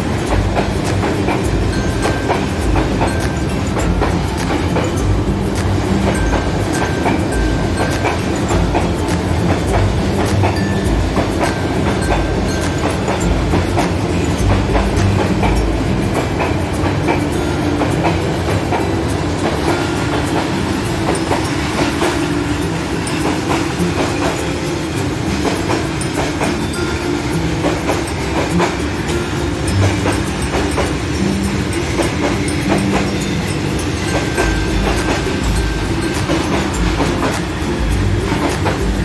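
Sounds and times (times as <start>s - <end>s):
train wheels rumbling on rails: 0.0s - 39.0s
wheels clacking: 0.0s - 39.0s.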